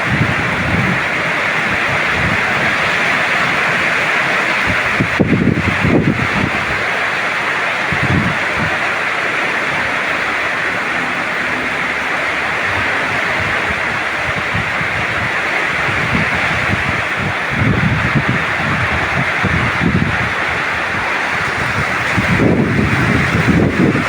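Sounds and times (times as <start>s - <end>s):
heavy rain hissing: 0.0s - 24.0s
wind rumbling on microphone: 0.0s - 24.0s.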